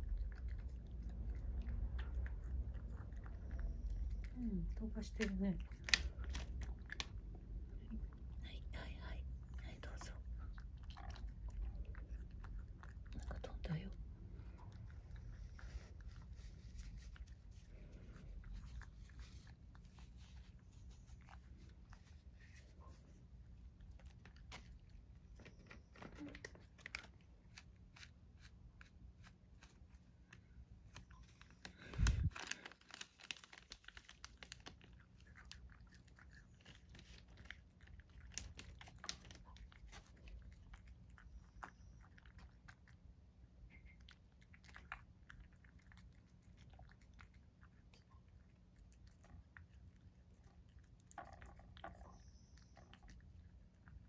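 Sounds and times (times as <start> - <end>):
cat chewing and crunching: 0.0 - 54.0.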